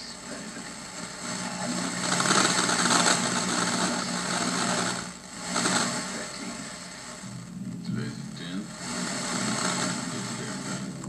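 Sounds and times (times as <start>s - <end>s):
steady low buzz: 0.0s - 11.0s
television static hiss: 0.0s - 11.0s.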